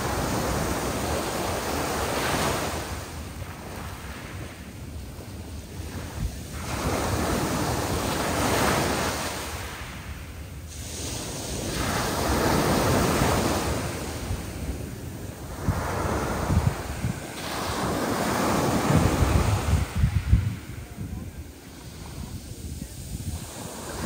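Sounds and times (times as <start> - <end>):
sea waves breaking on shore: 0.0 - 24.0
wind buffeting microphone: 0.0 - 24.0.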